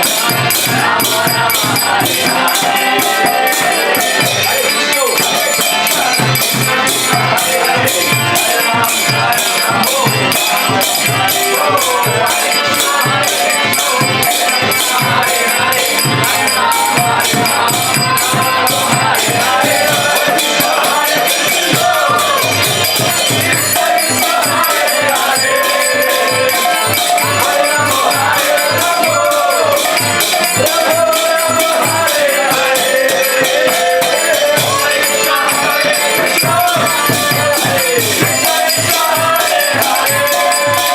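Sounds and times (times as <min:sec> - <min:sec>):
drum beat: 0:00.0 - 0:40.9
hand cymbals clattering: 0:00.0 - 0:40.9
wavering melody: 0:00.0 - 0:40.9.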